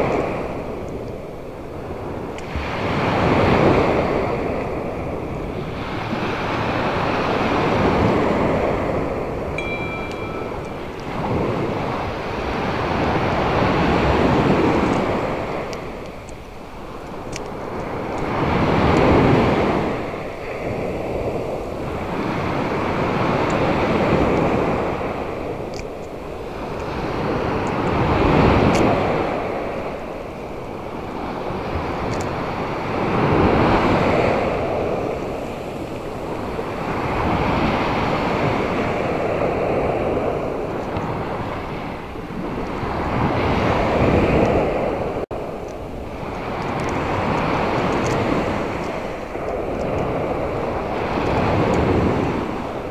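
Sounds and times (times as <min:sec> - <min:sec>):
surf breaking on shore: 0:00.0 - 0:52.9
wind on microphone: 0:00.0 - 0:52.9.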